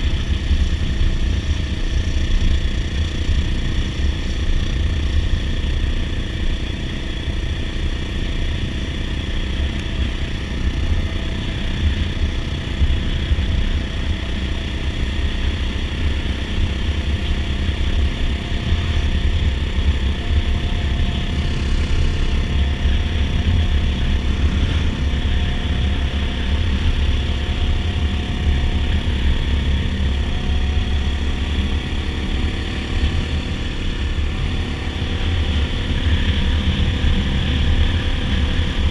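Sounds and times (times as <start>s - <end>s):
dirt bike engine running steadily: 0.0s - 38.9s.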